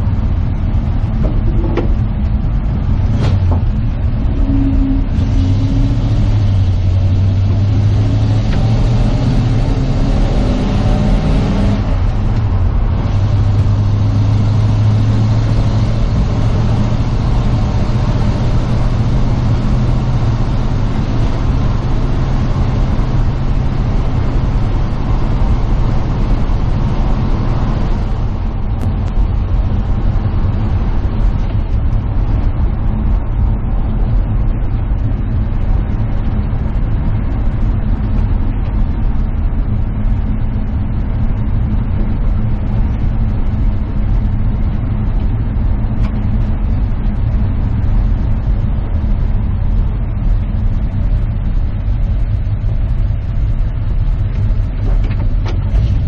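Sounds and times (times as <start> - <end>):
road and wind noise: 0.0 - 56.0
truck engine running: 0.0 - 56.0.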